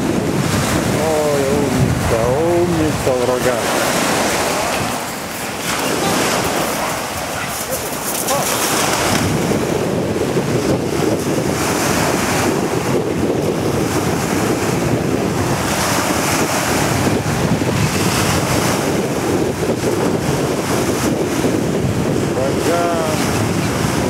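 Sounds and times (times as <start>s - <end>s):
waves washing on shingle beach: 0.0s - 24.0s
wind buffeting microphone: 0.0s - 24.0s.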